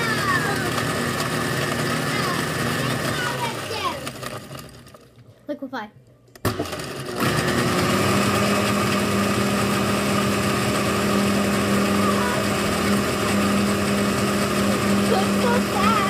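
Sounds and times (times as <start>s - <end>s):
blender running at high speed: 0.0s - 4.9s, 6.5s - 16.0s.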